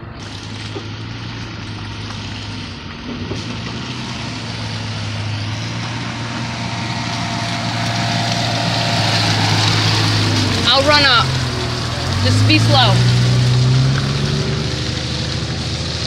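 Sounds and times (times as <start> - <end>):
vehicle engine crawling through mud: 0.0 - 16.0.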